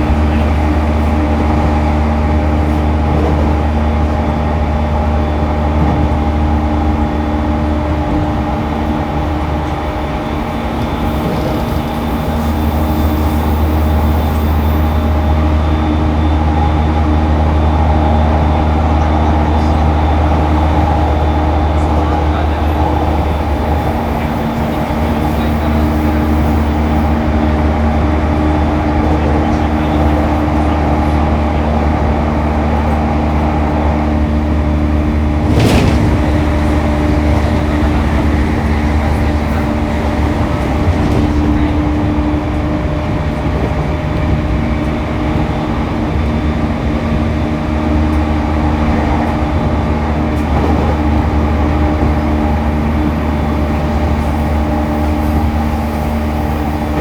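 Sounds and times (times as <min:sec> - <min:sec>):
train motor hum: 0:00.0 - 0:57.0
wheels rumbling on rail: 0:00.0 - 0:57.0.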